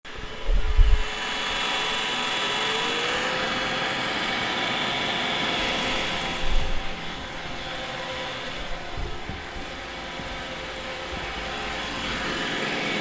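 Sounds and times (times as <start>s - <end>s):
robot vacuum whirring: 0.2s - 13.0s.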